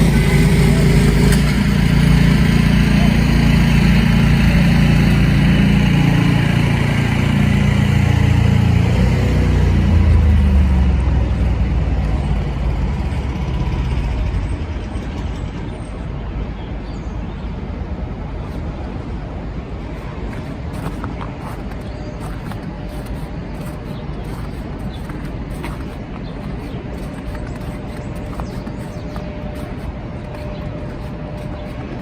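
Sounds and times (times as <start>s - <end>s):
heavy vehicle engine droning: 0.0s - 16.8s, 17.8s - 32.0s.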